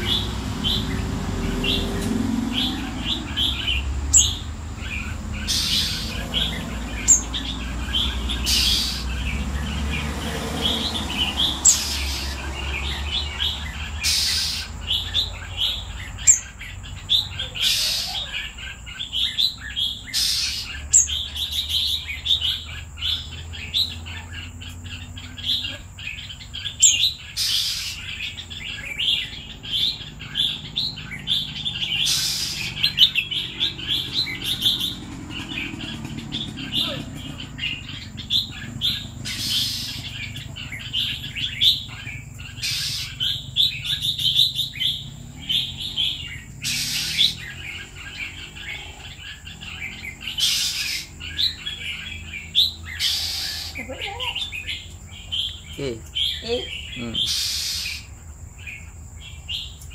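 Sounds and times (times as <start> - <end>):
bird chirping: 0.0 - 59.9
harsh bird calls: 0.0 - 59.9.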